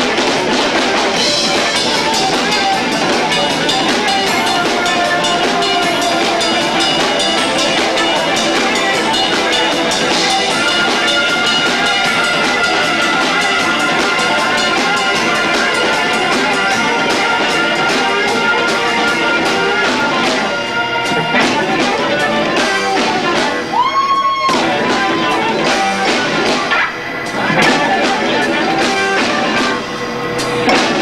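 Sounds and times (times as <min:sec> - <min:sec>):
distorted live rock band: 0:00.0 - 0:31.0
drum hits: 0:00.0 - 0:31.0.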